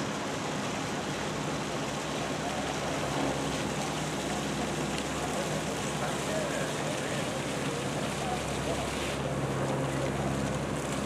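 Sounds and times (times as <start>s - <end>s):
wash of noise: 0.0s - 11.0s.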